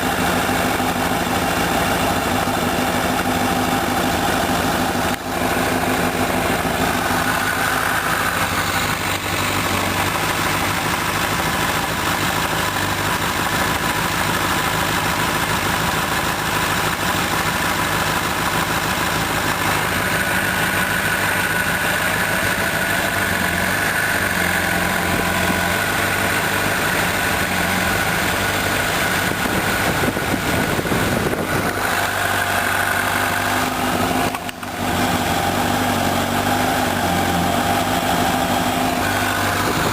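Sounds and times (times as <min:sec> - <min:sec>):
motorcycle engine running: 0:00.0 - 0:39.9
rapid engine knocking: 0:00.0 - 0:39.9.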